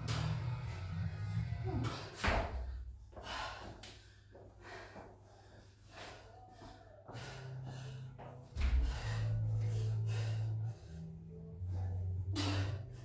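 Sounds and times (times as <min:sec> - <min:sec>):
woman panting: 0:01.6 - 0:13.0.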